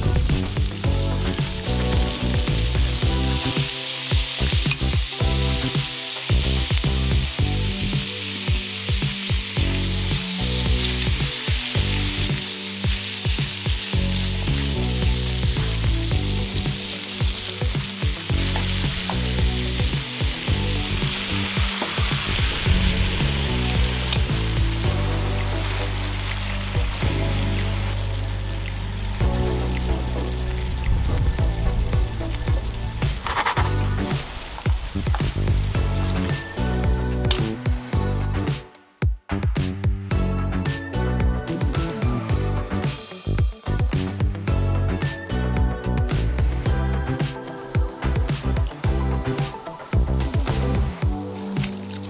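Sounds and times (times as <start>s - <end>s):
vegetables sizzling in a frying pan: 0.0s - 38.0s, 47.4s - 52.0s.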